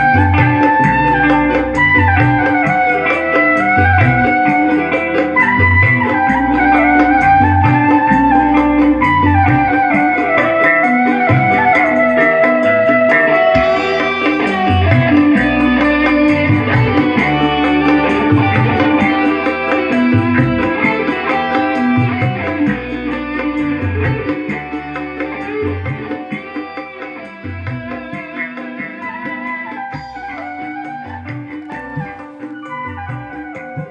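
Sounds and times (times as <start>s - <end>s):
music with drums and plucked strings: 0.0s - 33.9s.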